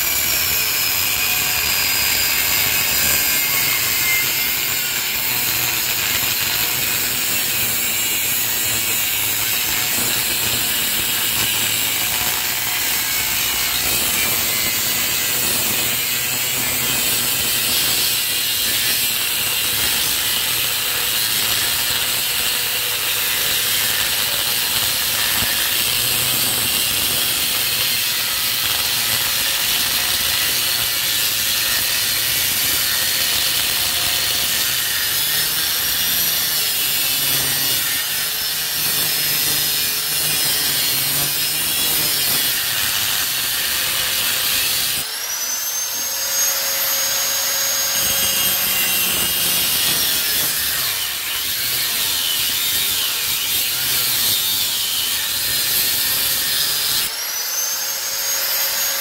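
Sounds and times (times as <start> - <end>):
angle grinder cutting metal: 0.0 - 59.0.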